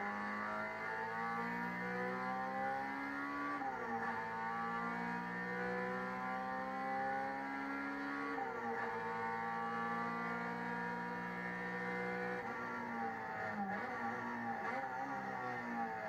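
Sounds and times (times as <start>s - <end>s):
race car engine accelerating: 0.0s - 16.0s.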